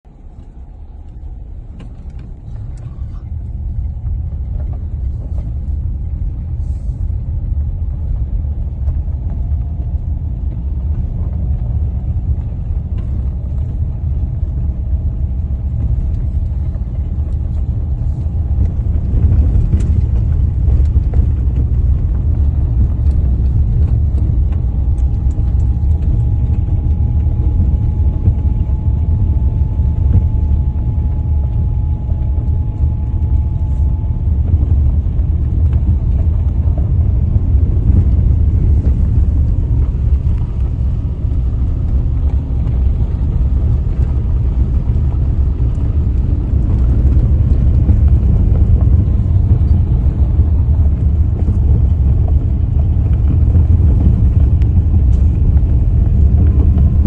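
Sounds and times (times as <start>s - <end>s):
car driving rumble: 0.0s - 57.0s
faint high whine: 0.1s - 57.0s.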